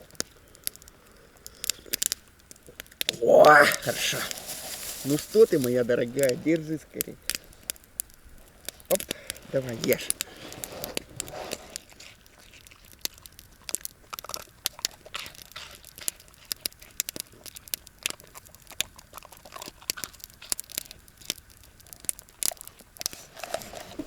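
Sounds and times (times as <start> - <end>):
dog chewing and crunching food: 0.0 - 24.0.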